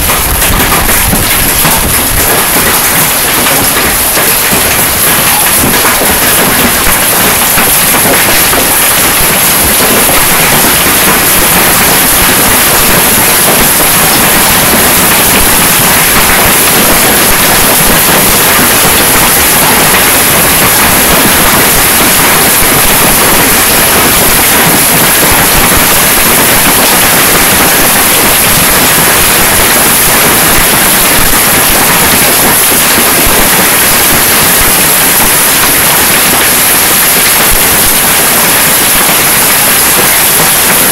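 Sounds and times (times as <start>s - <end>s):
hailstones striking ground and leaves: 0.0s - 40.9s.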